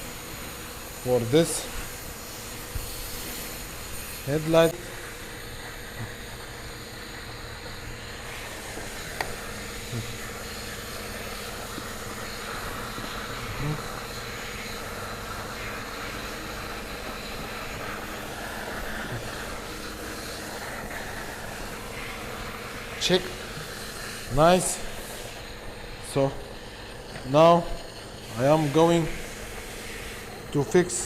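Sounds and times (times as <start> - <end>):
background hum and hiss: 0.0 - 31.0.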